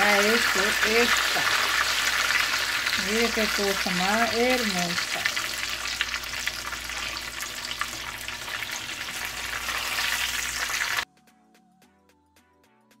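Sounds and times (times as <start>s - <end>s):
oil sizzling and popping: 0.0s - 11.0s.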